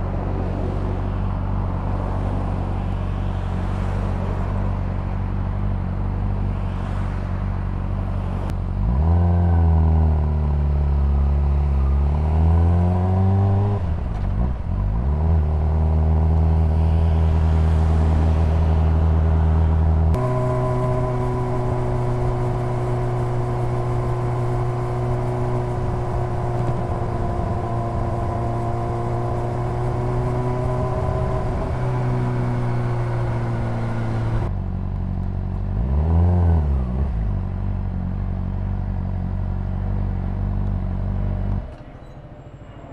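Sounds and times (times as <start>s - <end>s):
motorcycle engine and exhaust: 0.0s - 42.5s.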